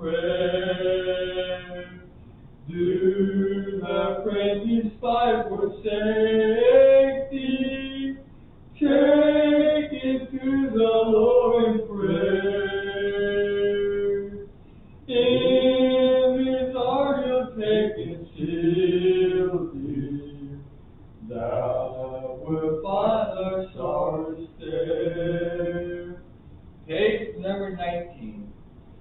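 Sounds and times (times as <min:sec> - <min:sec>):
hymn singing: 0:00.0 - 0:28.6.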